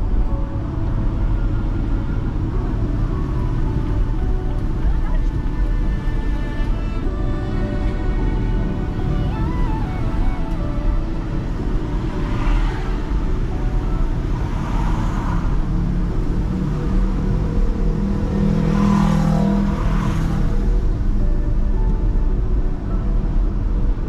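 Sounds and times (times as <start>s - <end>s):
car road rumble: 0.0s - 24.0s
vehicles passing: 0.0s - 24.0s.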